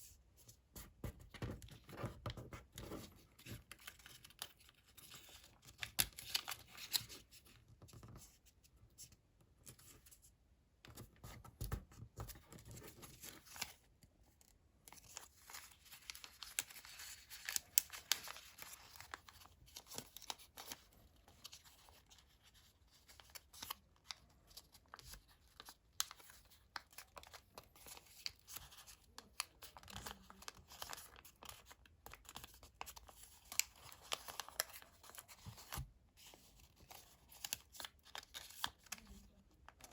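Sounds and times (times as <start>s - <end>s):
paper crinkling and creasing: 0.8s - 8.6s, 12.0s - 39.9s.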